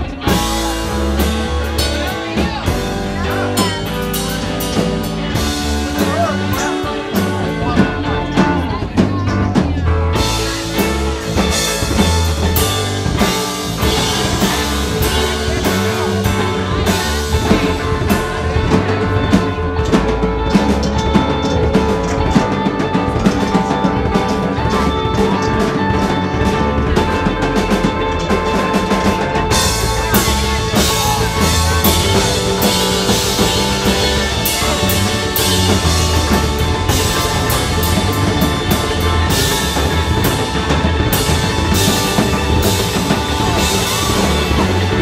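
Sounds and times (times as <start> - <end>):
drum kit: 0.0 - 45.0
electric bass: 0.0 - 45.0
electric guitar: 0.0 - 45.0
keyboard: 0.0 - 45.0.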